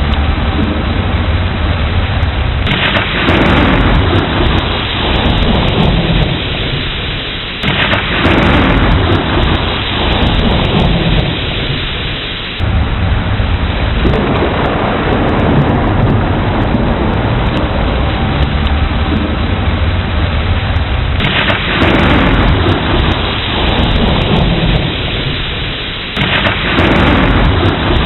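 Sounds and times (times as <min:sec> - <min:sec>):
heavy rain: 0:00.0 - 0:28.0
rolling thunder: 0:00.0 - 0:28.0.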